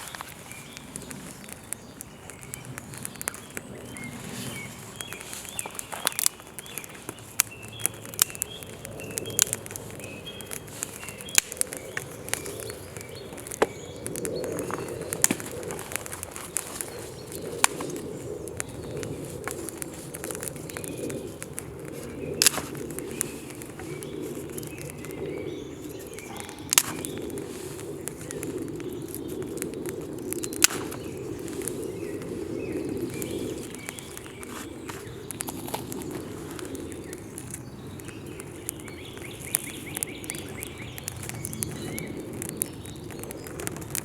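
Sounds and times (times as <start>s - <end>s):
campfire crackling: 0.0s - 44.0s
small birds chirping: 0.0s - 44.0s.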